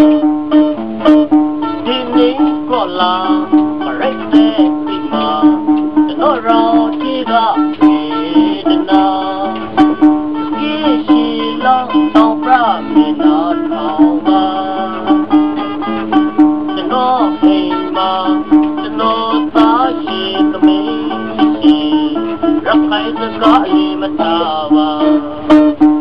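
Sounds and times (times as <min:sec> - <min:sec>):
plucked lute melody: 0:00.0 - 0:26.0.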